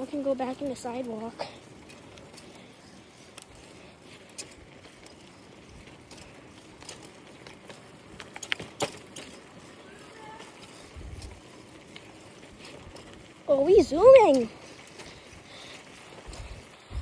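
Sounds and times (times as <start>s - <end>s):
bicycle clicks and rattles: 0.0s - 17.0s
bicycle rolling on pavement: 0.0s - 17.0s.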